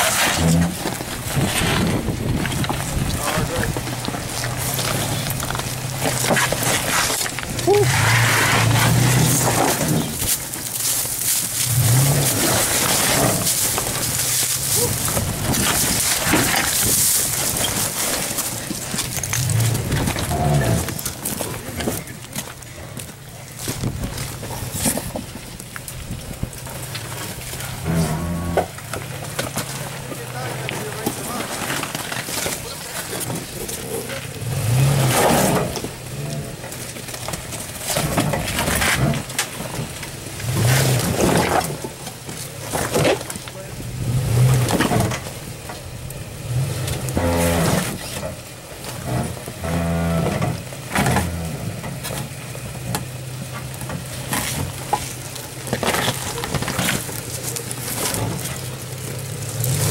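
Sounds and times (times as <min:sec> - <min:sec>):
engine rumbling at low revs: 0:00.0 - 0:59.9
rocks and gravel crunching: 0:00.0 - 0:59.9.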